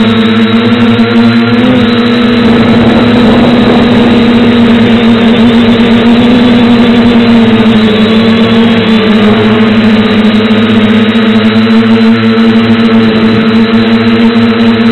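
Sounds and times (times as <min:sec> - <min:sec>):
drone motors buzzing: 0:00.0 - 0:14.9.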